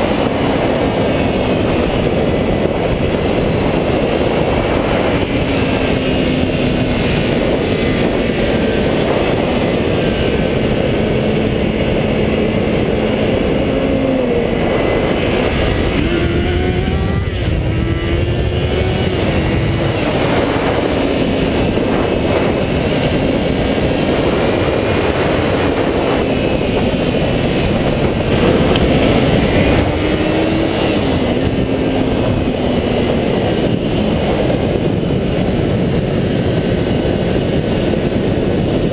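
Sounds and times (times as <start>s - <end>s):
motorcycle engines revving: 0.0s - 38.9s
wind rushing over microphone: 0.0s - 38.9s.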